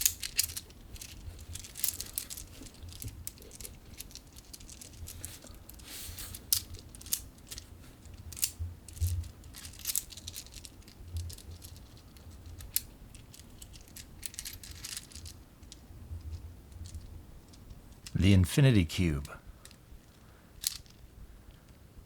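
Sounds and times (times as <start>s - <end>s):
rustling: 0.0s - 18.2s, 19.6s - 21.8s.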